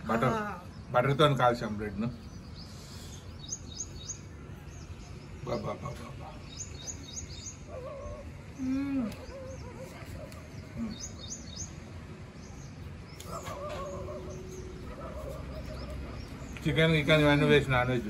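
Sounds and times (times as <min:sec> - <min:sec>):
outdoor background noise: 0:00.0 - 0:18.0
small birds chirping: 0:00.0 - 0:18.0.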